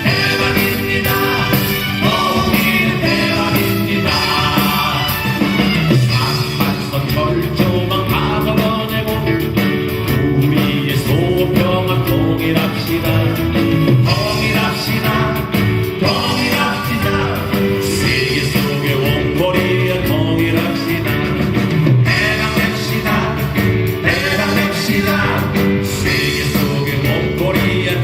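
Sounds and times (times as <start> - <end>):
drums: 0.0 - 28.0
guitar: 0.0 - 28.0
keyboard: 0.0 - 28.0
person singing: 0.0 - 28.0.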